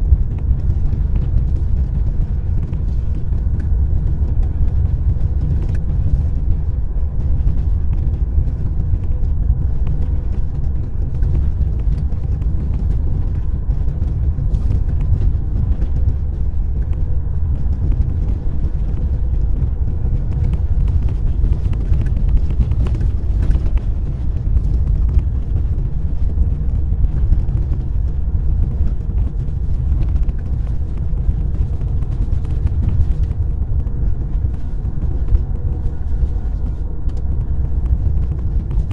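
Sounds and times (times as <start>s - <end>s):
car engine and tyres rumbling: 0.0s - 38.9s
faint constant hum: 0.0s - 38.9s.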